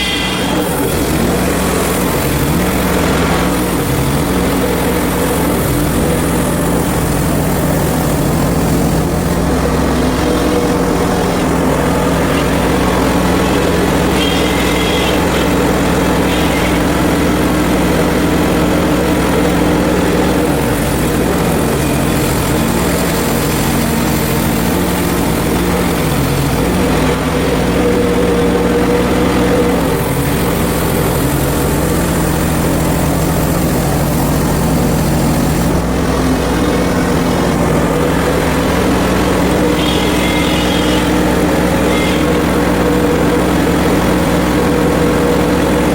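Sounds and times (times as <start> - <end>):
high hiss of sawing: 0.0 - 45.8
small gas engine running: 0.0 - 45.9.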